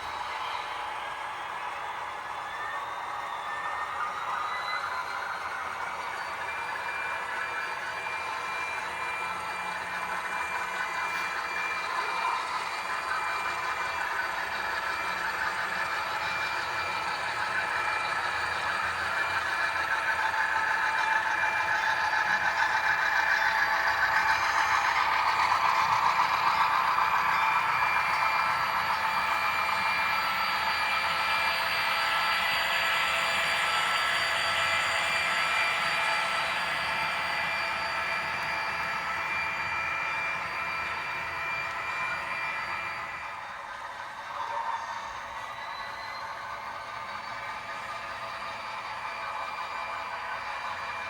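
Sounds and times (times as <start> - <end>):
model train whine: 0.0 - 51.0.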